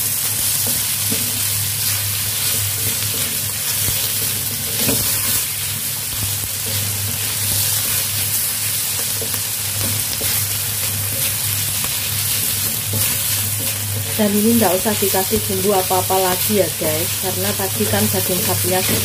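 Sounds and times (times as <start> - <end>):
meat and greens sizzling in oil: 0.0 - 19.0
wooden spatula scraping a wok: 0.5 - 19.0.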